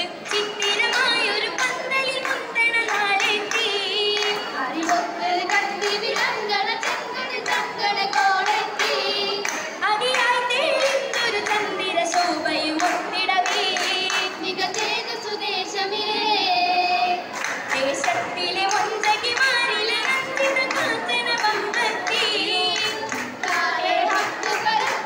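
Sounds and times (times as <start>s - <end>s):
rhythmic hand claps: 0.0s - 15.3s, 17.2s - 25.0s
girls singing together: 0.0s - 25.0s.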